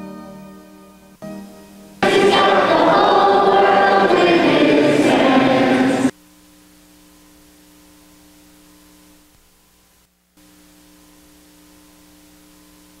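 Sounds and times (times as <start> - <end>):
faint electrical hum with hiss: 0.0 - 13.0.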